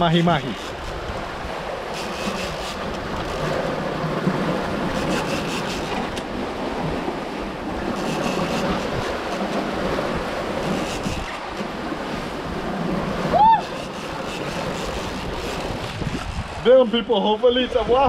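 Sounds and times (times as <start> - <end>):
wind buffeting microphone: 0.0 - 16.7
water splashing along hull: 0.0 - 18.0.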